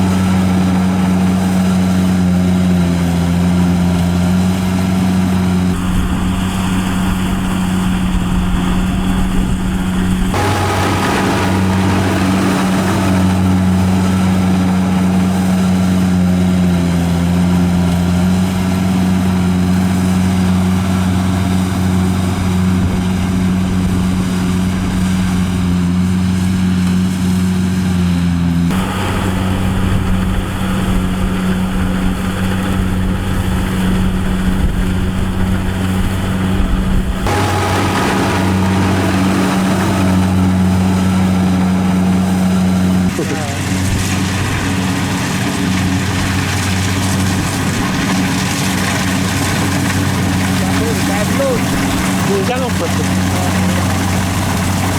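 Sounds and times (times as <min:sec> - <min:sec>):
harvester engine running: 0:00.0 - 0:54.9.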